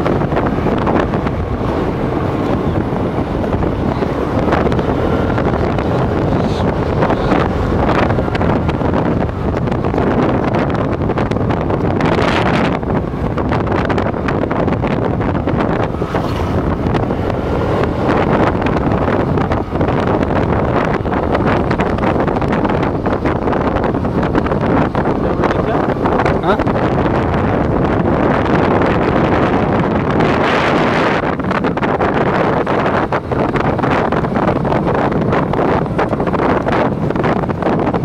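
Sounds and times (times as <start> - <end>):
road noise: 0.0 - 38.0
scooter engine running: 0.0 - 38.0
wind buffeting microphone: 0.0 - 38.0.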